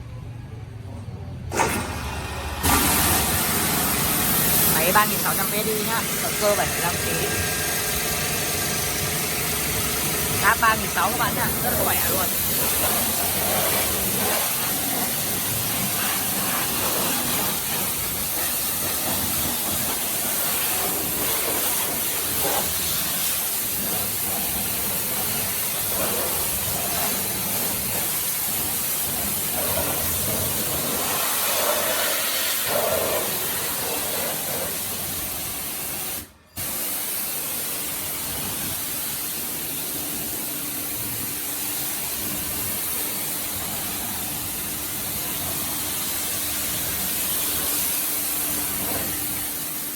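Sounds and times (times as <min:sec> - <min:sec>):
pressure washer spraying: 0:01.5 - 0:49.9.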